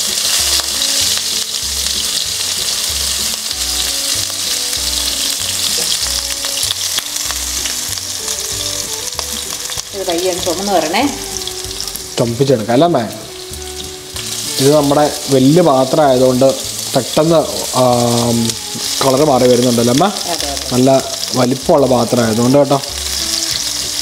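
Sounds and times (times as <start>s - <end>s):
shallots sizzling in hot oil: 0.0s - 24.0s.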